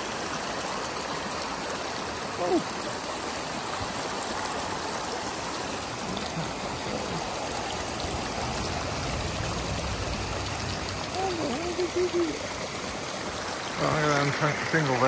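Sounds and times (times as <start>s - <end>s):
creek babbling: 0.0s - 15.0s.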